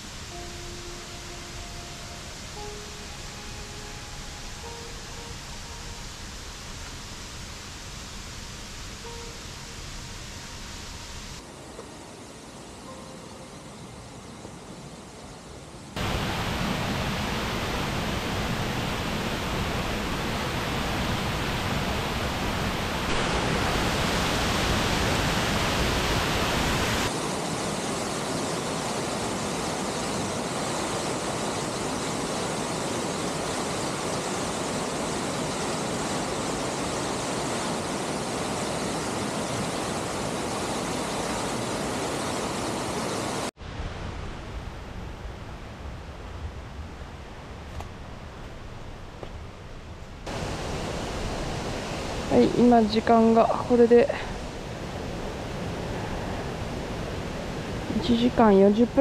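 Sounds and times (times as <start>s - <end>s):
waterfall rushing: 0.0s - 14.0s, 16.0s - 45.2s, 50.2s - 59.0s
faint hiss: 0.0s - 48.4s.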